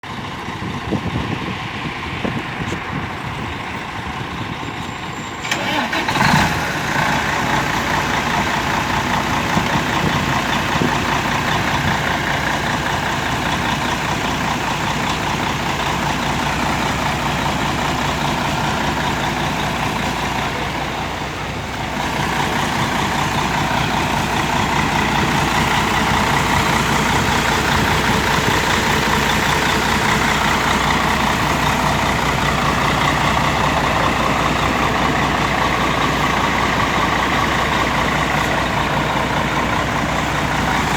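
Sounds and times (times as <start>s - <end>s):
diesel engine running loud: 0.0s - 40.9s
engine knock: 5.4s - 40.9s.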